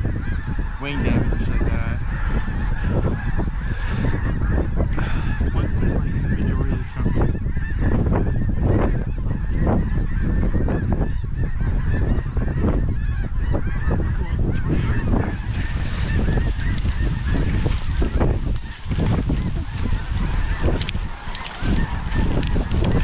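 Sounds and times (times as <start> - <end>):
flock of geese honking: 0.0 - 23.0.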